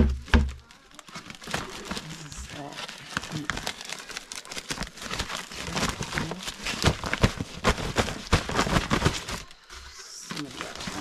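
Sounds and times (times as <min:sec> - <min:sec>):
crinkling rustle: 0:00.3 - 0:11.0.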